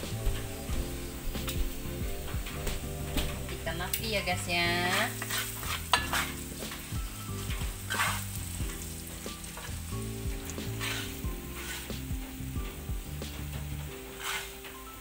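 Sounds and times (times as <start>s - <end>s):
food sizzling in a wok: 0.0s - 15.0s
wooden spatula scraping a pan: 0.0s - 15.0s.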